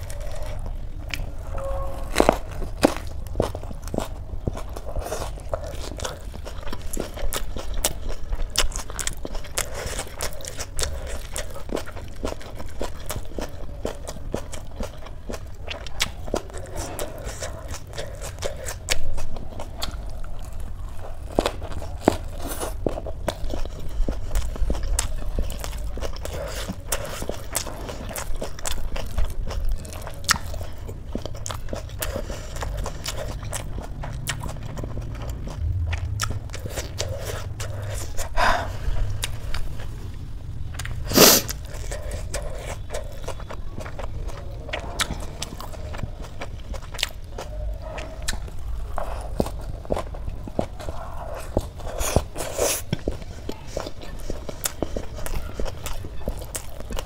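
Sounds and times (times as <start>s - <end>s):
lettuce crunching while chewing: 0.0s - 57.0s.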